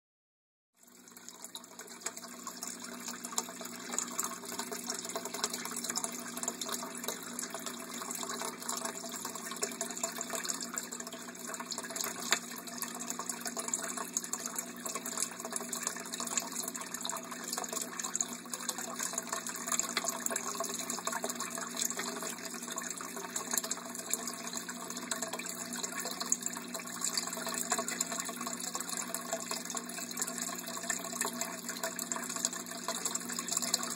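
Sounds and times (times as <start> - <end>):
aquarium filter splashing water: 0.8 - 33.9.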